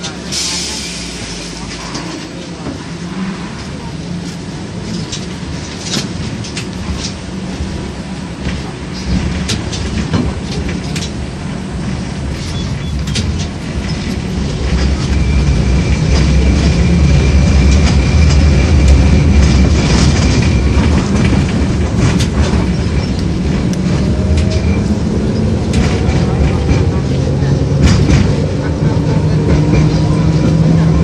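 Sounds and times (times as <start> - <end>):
tram rumble and motor hum: 0.0 - 31.0
wheels clicking on track: 3.6 - 31.0.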